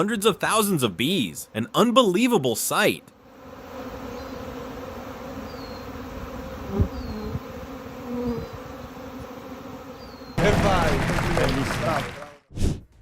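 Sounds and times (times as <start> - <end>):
bees buzzing: 0.2 - 12.2.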